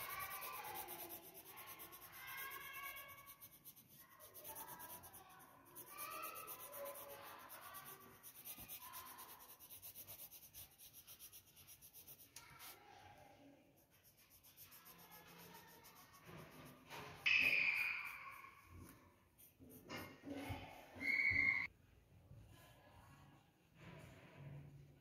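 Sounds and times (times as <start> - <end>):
pencil scratching on paper: 0.0 - 13.0, 13.8 - 21.1.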